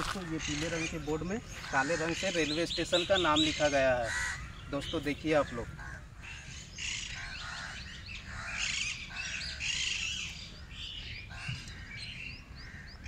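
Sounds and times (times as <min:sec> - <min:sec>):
birds chirping: 0:00.0 - 0:13.0
harsh low bird calls: 0:00.0 - 0:13.0.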